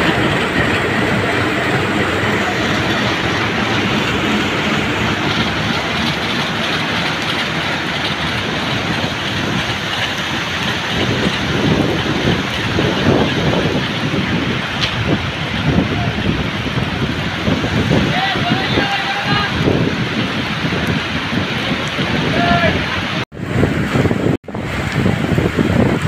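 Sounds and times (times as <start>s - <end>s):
coaches rolling on rails: 0.0s - 26.0s
diesel locomotive engine running: 0.0s - 26.0s
rain falling: 0.0s - 26.0s.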